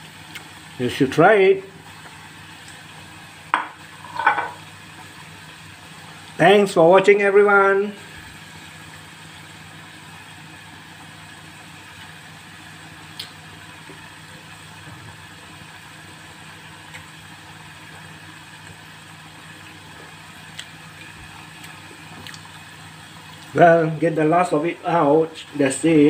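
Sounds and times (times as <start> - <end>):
food deep-frying in oil: 0.0 - 26.0.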